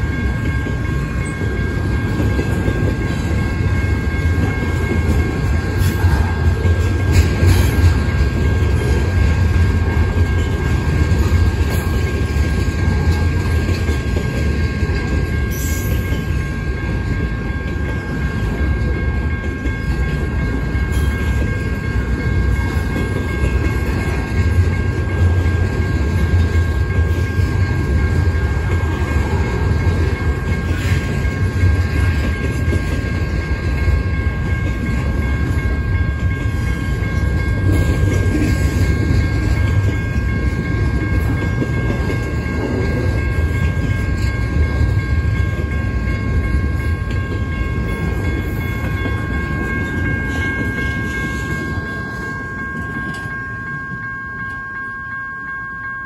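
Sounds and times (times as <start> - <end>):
wheels clickety-clack: 0.0 - 54.8
steel wheels rumbling on rails: 0.0 - 56.0.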